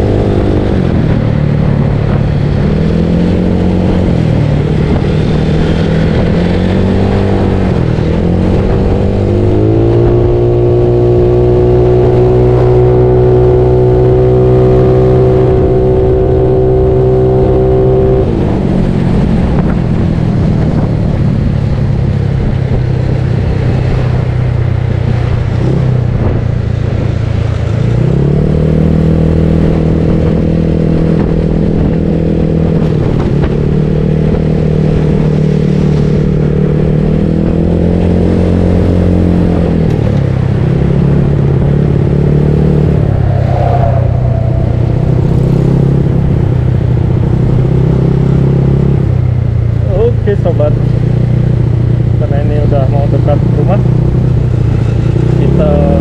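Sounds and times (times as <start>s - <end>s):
wind on microphone: 0.0s - 49.8s.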